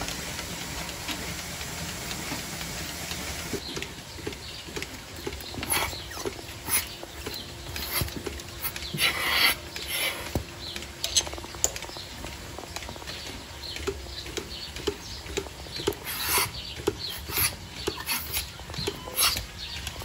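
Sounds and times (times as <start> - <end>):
milking cups clicking: 0.0 - 20.0
milking pulsator ticking: 0.0 - 20.0.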